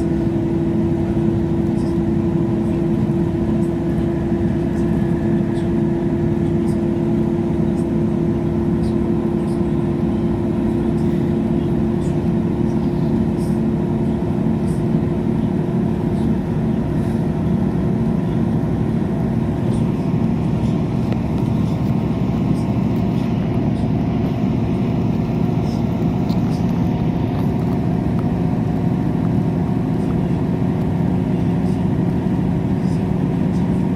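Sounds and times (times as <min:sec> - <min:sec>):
train interior hum: 0:00.0 - 0:33.9.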